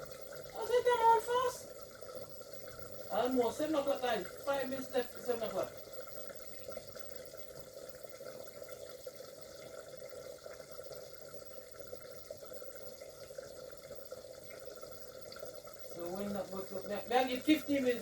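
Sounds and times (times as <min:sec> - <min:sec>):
pot bubbling on stove: 0:00.0 - 0:18.0.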